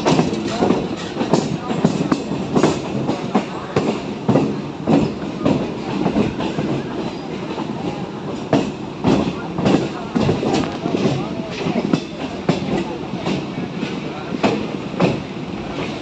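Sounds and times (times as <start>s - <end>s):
rumble of moving coaches: 0.0s - 16.0s
train wheels clattering over track: 0.0s - 16.0s.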